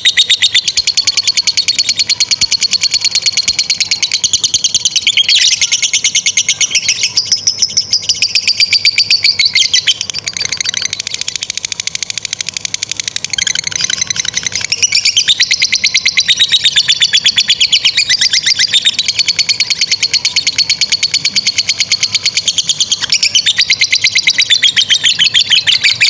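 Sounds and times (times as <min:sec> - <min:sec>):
lovebird chattering trill: 0:00.0 - 0:26.0.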